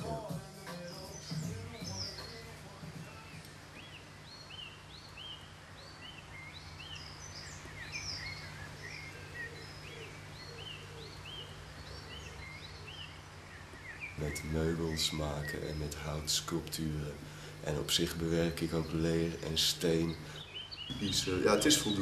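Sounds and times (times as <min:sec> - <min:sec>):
small birds chirping: 0:00.0 - 0:22.0
steady low hum: 0:01.6 - 0:22.0.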